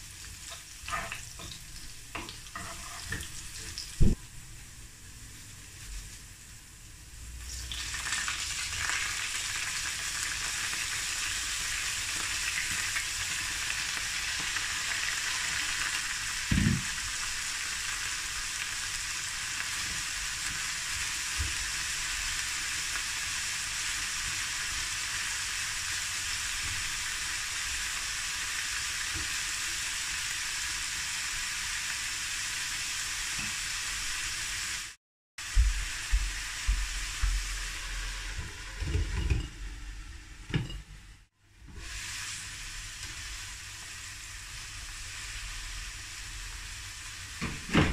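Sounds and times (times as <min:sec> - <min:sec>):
cabbage sizzling in hot oil: 0:00.0 - 0:40.5, 0:41.6 - 0:47.8.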